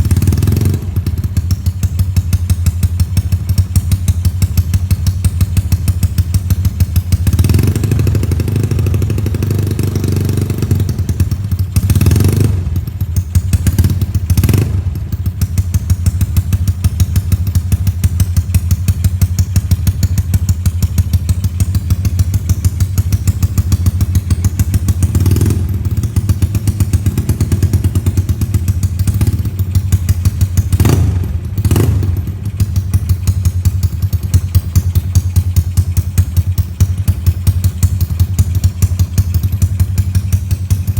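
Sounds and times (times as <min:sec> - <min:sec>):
scooter engine idling and revving: 0:00.0 - 0:40.9.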